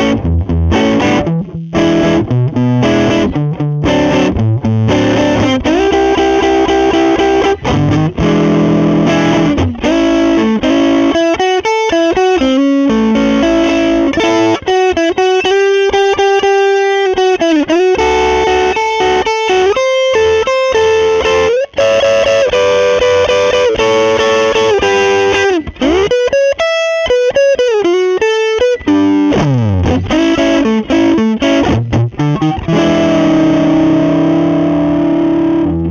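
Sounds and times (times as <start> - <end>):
overdriven electric guitar: 0.0 - 35.9.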